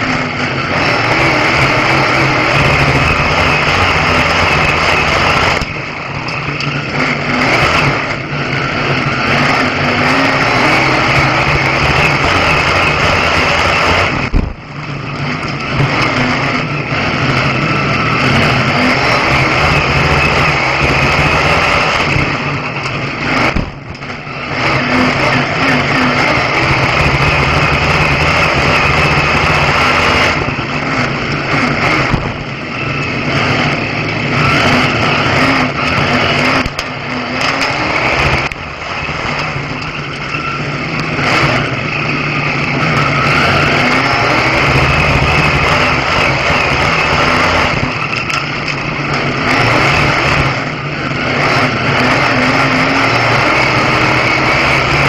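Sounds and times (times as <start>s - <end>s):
racing car engine from cockpit: 0.0s - 55.0s.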